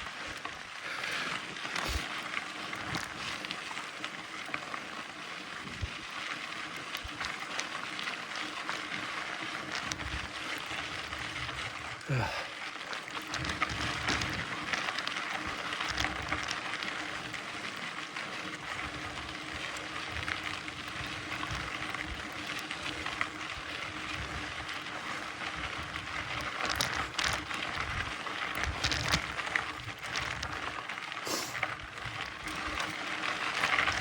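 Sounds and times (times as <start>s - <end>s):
bike clicks and rattles: 0.0s - 34.0s
bike tyres crunching over gravel: 0.0s - 34.0s.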